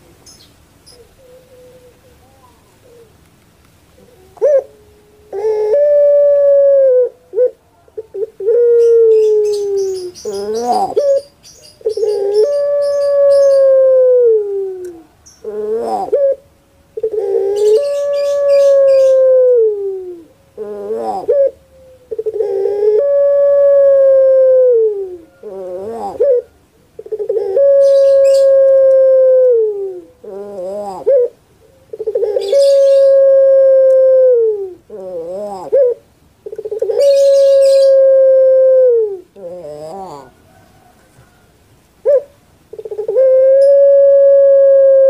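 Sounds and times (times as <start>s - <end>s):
dove cooing: 0.8s - 3.2s, 3.9s - 41.4s, 42.0s - 45.0s.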